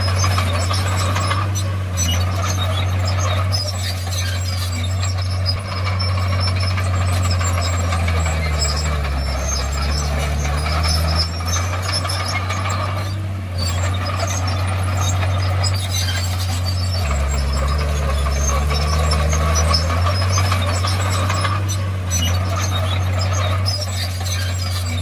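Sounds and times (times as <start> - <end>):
bulldozer diesel engine running: 0.0 - 25.0
ticking and clatter: 0.0 - 25.0.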